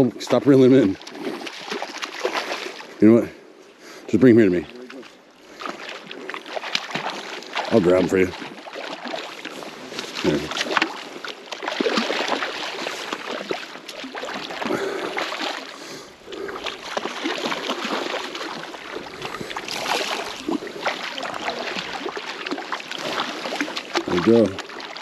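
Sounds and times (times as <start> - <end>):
lake water splashing: 0.0 - 25.0.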